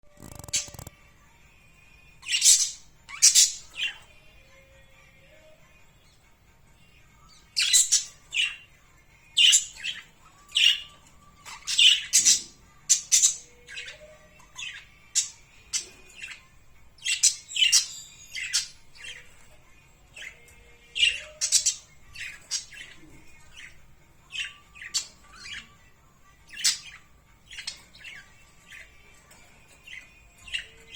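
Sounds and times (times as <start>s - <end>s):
birds chirping: 0.1s - 0.9s, 2.2s - 4.7s, 7.2s - 30.9s.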